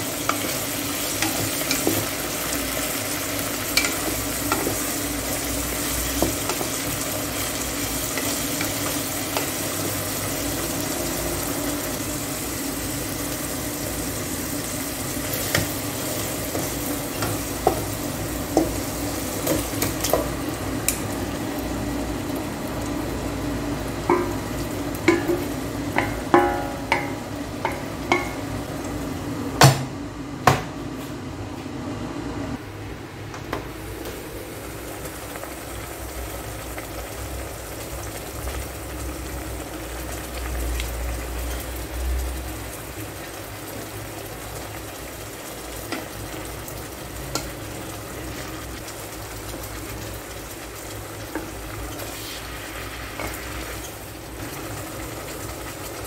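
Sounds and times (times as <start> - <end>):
food sizzling in a pot: 0.0 - 29.3, 33.8 - 56.0.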